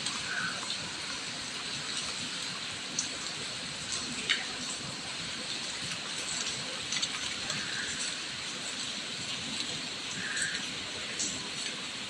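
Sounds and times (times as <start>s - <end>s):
heavy rain falling: 0.0s - 12.0s
raindrops ticking: 0.0s - 12.0s.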